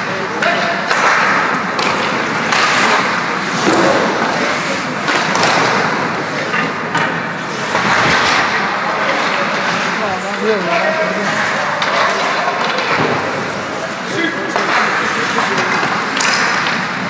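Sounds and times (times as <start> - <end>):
rink and crowd noise: 0.0 - 17.0
sticks and puck knocking: 0.4 - 13.6, 14.5 - 17.0.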